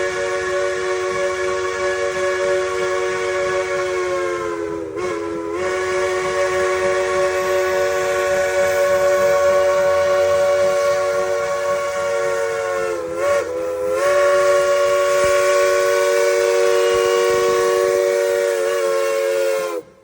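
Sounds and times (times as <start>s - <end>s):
steam locomotive chime whistle: 0.0s - 20.0s.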